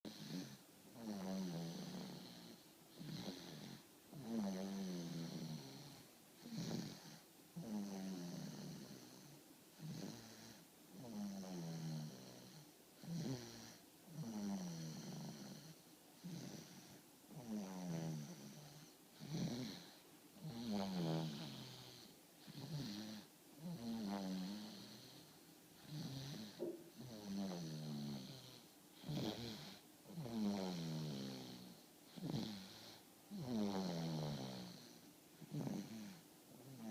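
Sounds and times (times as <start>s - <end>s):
person snoring: 0.1s - 36.9s.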